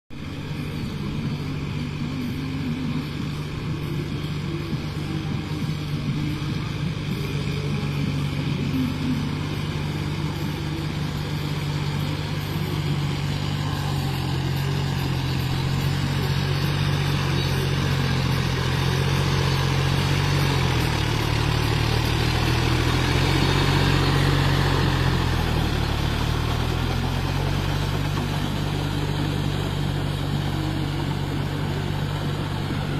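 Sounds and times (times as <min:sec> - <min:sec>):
tractor diesel engine running: 0:00.1 - 0:32.9.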